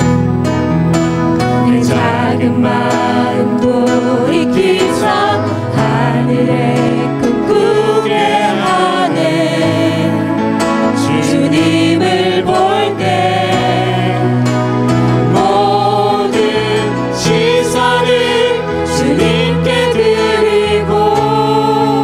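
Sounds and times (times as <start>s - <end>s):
acoustic guitar: 0.0s - 22.0s
sustained band chords: 0.0s - 22.0s
group singing worship song: 1.4s - 22.0s.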